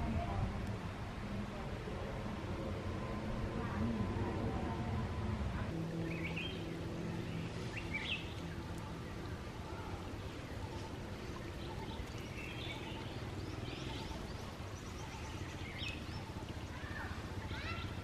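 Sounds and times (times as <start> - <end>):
low rushing background: 0.0 - 17.5.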